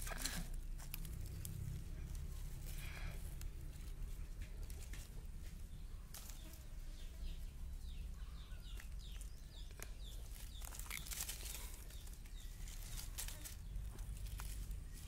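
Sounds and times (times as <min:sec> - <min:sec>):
rustling of dry leaves: 0:00.0 - 0:15.0
bird chirping: 0:00.2 - 0:15.0.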